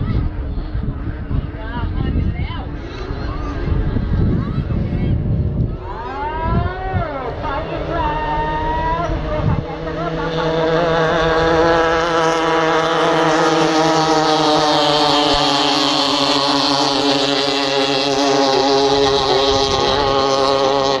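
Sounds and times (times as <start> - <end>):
boat engines high-revving: 0.0 - 21.0.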